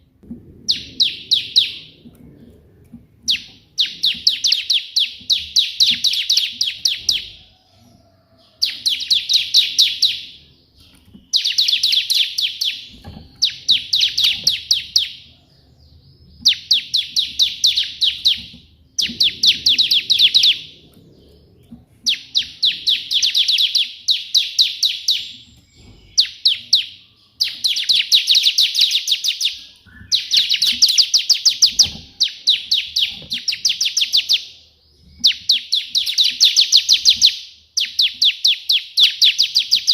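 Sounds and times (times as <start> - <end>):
bird chattering song: 0.7 - 2.1, 3.2 - 7.5, 8.6 - 39.9.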